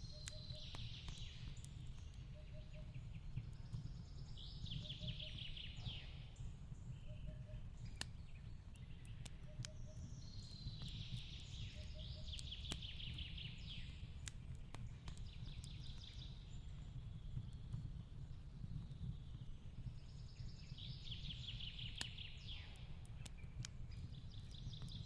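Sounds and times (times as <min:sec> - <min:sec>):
birdsong chirps and trills: 0:00.0 - 0:17.8, 0:18.4 - 0:25.0
fireplace crackling and popping: 0:00.0 - 0:25.0.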